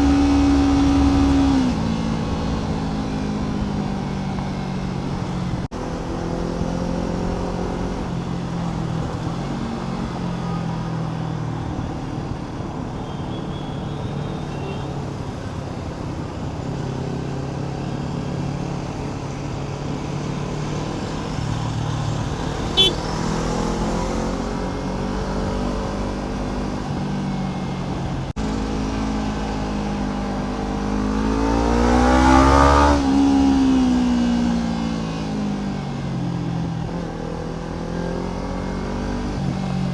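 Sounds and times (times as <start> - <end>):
motorcycle engine running and revving: 0.0 - 13.1, 14.1 - 39.9.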